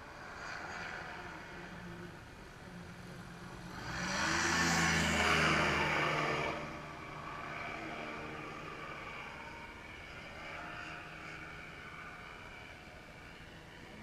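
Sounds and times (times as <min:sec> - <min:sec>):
ultralight aircraft engine droning: 0:00.0 - 0:14.0.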